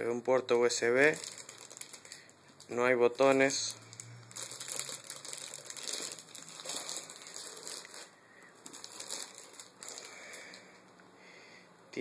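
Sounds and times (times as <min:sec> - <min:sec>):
plastic packaging crinkling: 0:00.8 - 0:10.8.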